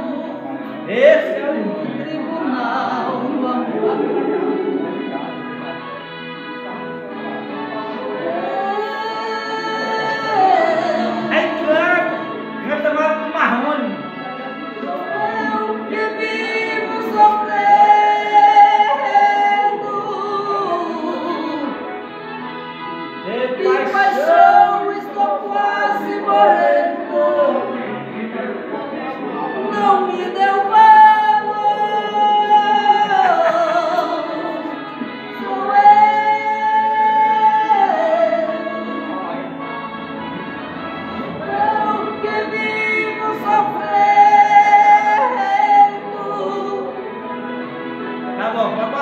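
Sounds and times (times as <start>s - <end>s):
person singing unaccompanied: 0.0s - 5.6s, 7.6s - 14.1s, 14.8s - 22.0s, 23.2s - 39.6s, 41.1s - 47.6s.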